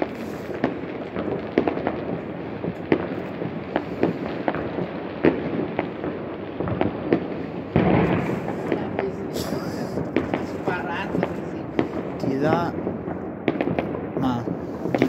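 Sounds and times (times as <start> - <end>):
firecracker crackle: 0.0 - 15.0
firework bangs and pops: 0.0 - 15.0.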